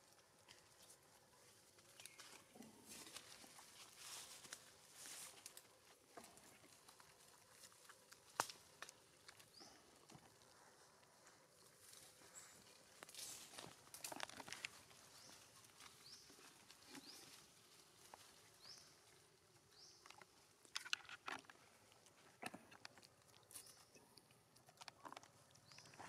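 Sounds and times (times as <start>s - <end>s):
leaves and twigs rustling and snapping: 0.0s - 26.0s.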